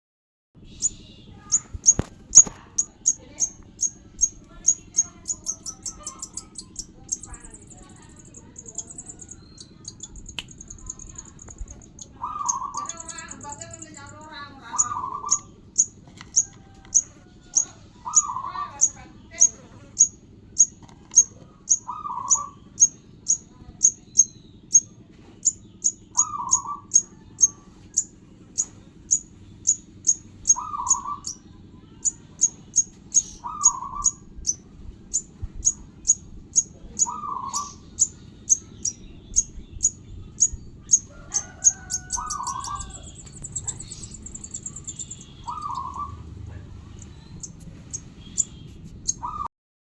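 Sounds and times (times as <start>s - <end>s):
bird chirping: 0.6s - 49.5s
bird trill: 0.6s - 49.5s
lower bird call: 0.6s - 49.5s.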